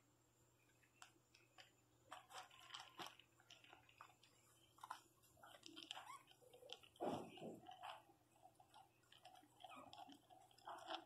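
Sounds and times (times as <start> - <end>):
puppies chewing dry kibble: 0.8 - 11.0.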